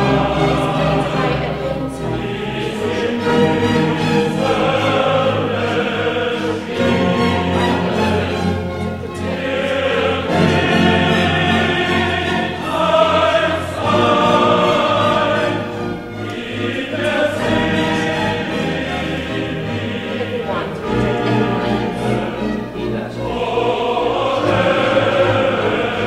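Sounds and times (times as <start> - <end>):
choir singing held chords: 0.0 - 26.0.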